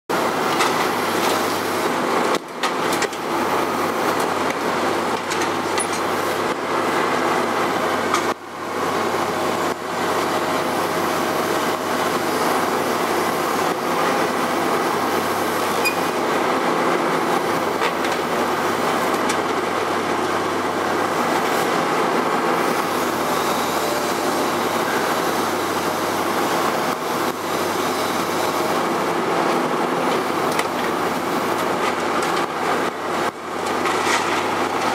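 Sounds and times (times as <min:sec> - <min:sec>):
excavator engine and hydraulics: 0:00.1 - 0:34.9.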